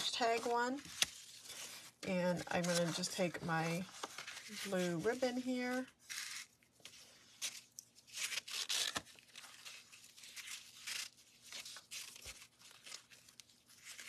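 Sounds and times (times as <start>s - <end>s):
ribbon and cardstock rustling: 0.0s - 14.0s.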